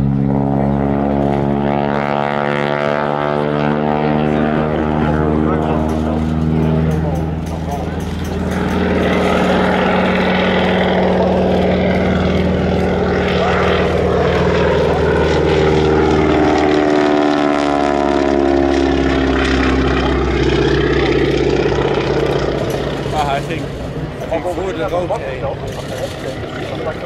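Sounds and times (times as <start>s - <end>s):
propeller aircraft engine: 0.0s - 27.0s.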